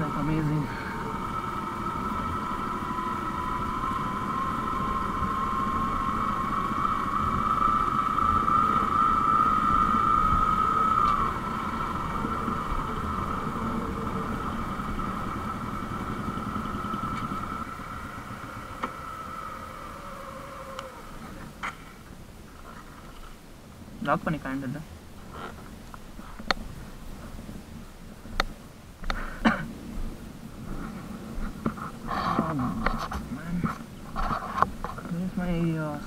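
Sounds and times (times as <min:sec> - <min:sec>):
motorcycle engine whine: 0:00.0 - 0:36.0.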